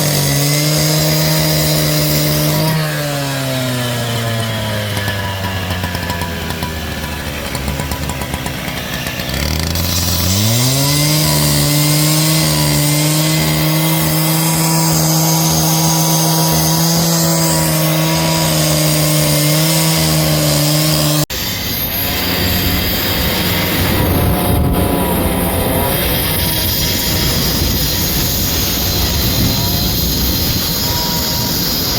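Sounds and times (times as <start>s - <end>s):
rough noisy machine: 0.0s - 31.9s
small engine revving high: 0.0s - 31.9s.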